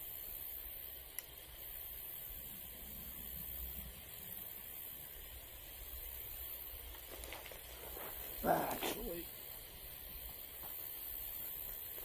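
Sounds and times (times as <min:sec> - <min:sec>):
low outdoor rumble: 0:00.2 - 0:12.0.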